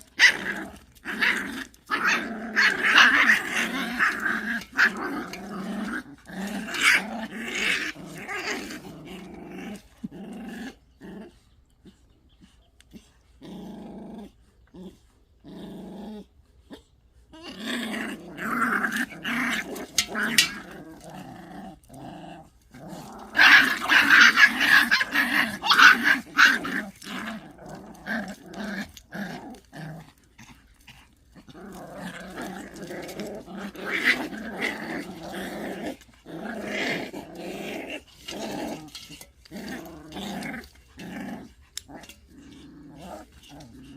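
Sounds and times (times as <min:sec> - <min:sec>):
puppies growling: 0:00.0 - 0:43.9.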